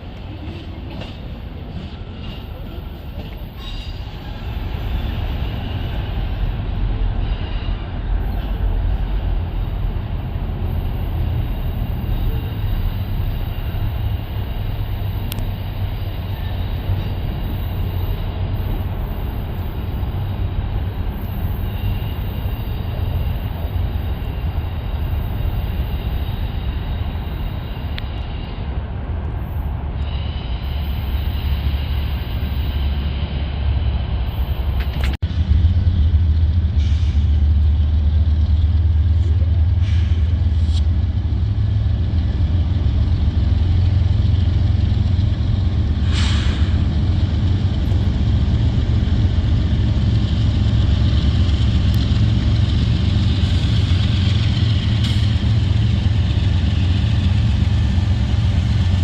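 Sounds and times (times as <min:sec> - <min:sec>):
train rolling past: 0:00.0 - 0:59.0.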